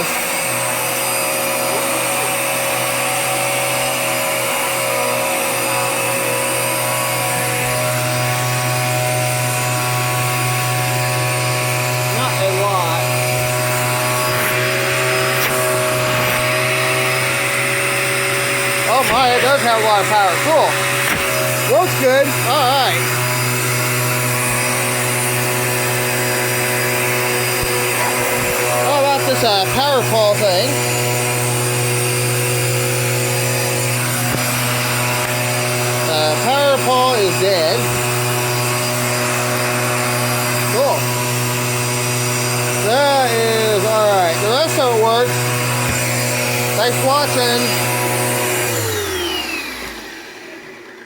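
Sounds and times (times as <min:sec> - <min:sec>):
vacuum cleaner running: 0:00.0 - 0:51.0.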